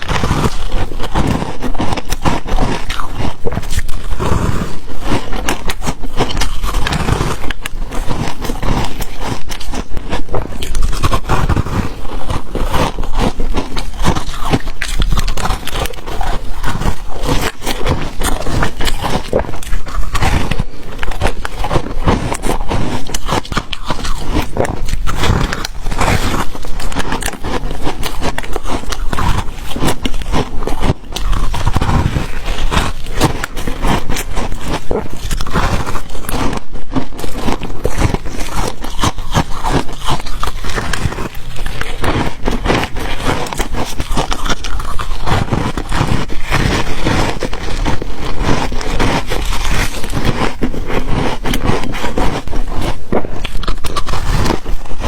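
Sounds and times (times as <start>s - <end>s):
chewing crunchy ice: 0.0s - 55.0s.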